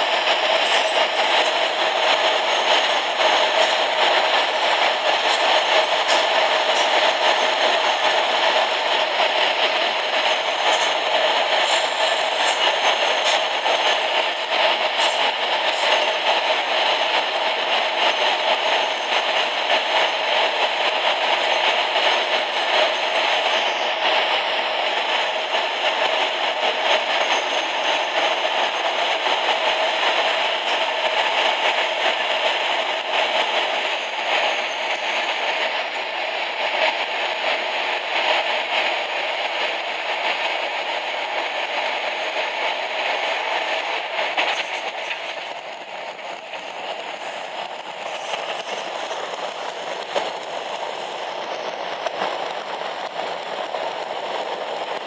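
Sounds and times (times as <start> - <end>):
train running in tunnel: 0.0 - 55.0.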